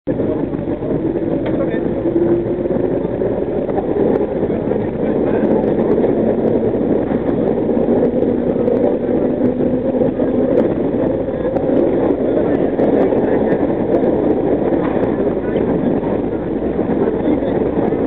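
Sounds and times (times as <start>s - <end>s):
subway train rumbling in tunnel: 0.1s - 18.0s.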